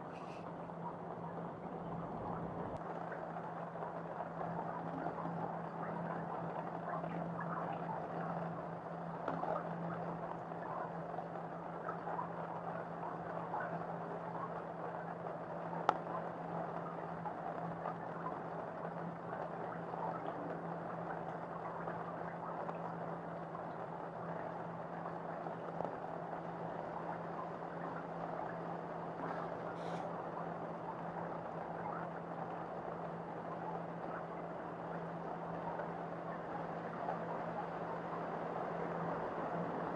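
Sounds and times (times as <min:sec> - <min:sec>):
low hum: 0:00.0 - 0:39.9
rain pattering on a balcony: 0:00.0 - 0:39.9.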